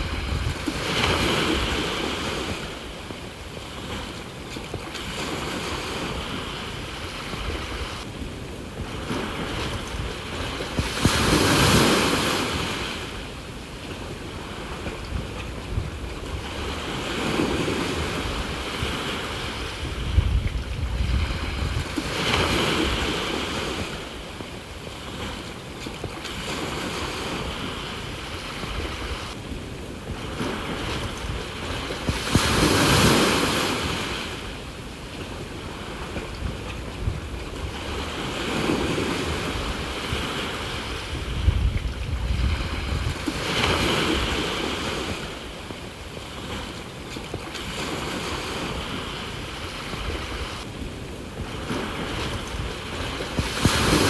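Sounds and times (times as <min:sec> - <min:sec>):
sea waves washing ashore: 0:00.0 - 0:54.0
wind rumbling on microphone: 0:00.0 - 0:54.0.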